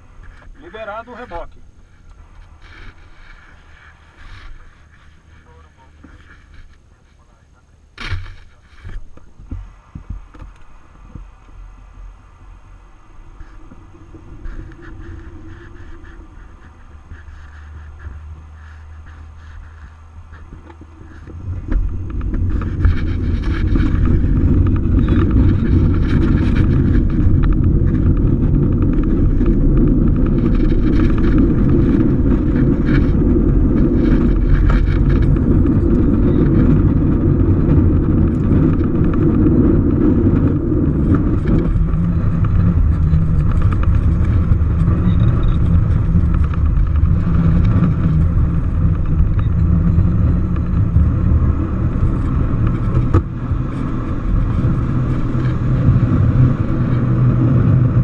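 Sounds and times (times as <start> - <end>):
airflow over canopy: 0.0 - 58.0
wheel rumbling over runway: 0.0 - 58.0.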